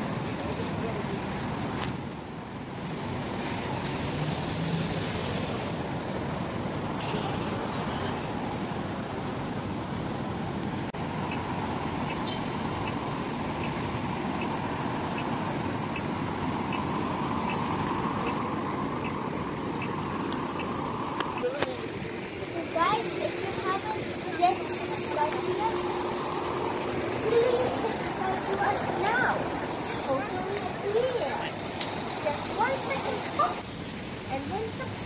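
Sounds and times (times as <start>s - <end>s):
cars passing on road: 0.0s - 35.0s.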